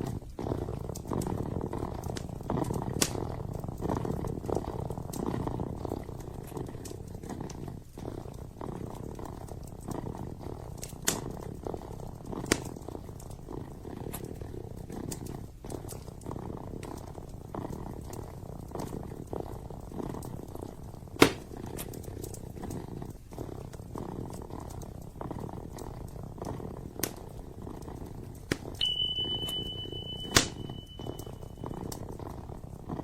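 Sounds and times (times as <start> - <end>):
fire popping: 0.0 - 33.0
kitten purring: 0.0 - 33.0
wood fire crackling: 0.0 - 33.0.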